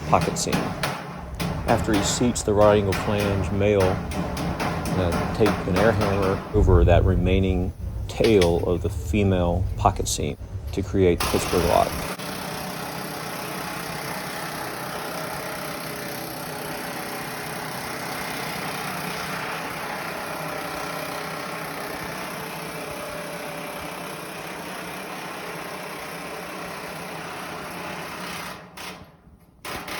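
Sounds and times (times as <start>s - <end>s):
pneumatic air hammer hammering metal: 0.0s - 6.6s, 11.2s - 29.9s.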